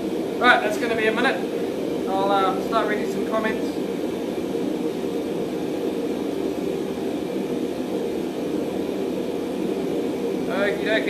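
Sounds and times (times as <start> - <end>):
forge rushing noise: 0.0 - 11.0.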